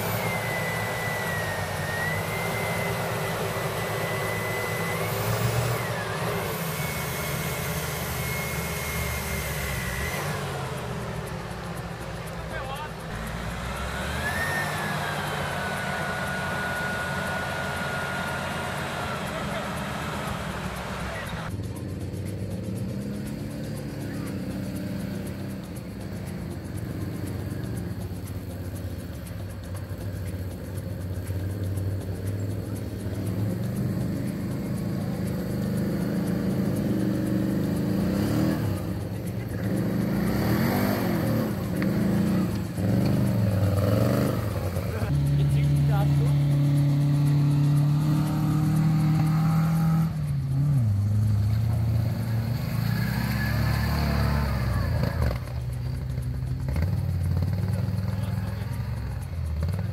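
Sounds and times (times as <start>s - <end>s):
suv engine revving: 0.0s - 59.9s
thin high-pitched whine: 0.0s - 59.9s.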